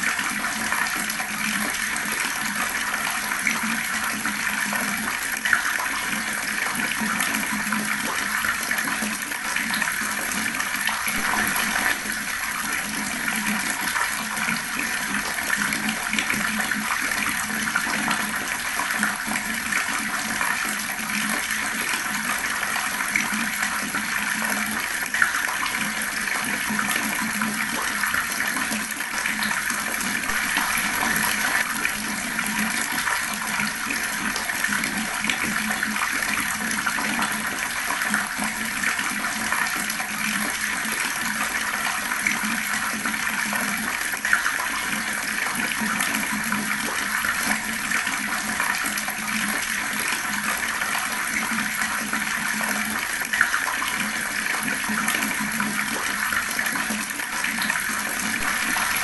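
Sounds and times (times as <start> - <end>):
fast-flowing water: 0.0 - 59.0.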